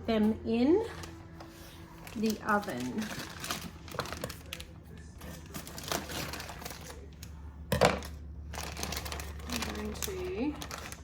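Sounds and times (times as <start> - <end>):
plastic wrapping crinkling: 0.8 - 11.0.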